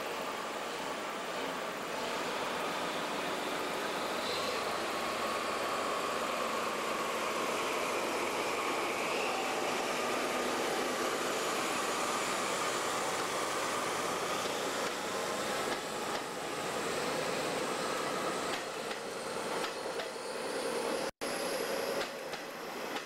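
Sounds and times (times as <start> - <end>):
diesel locomotive engine: 0.0 - 23.0
train coaches rolling: 0.0 - 23.0.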